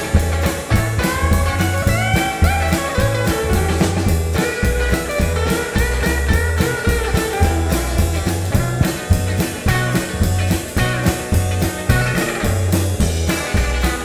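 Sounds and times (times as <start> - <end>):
bass guitar: 0.0 - 14.0
drum kit beat: 0.0 - 14.0
electric guitars: 0.0 - 14.0
guitar line sliding between notes: 0.0 - 14.0.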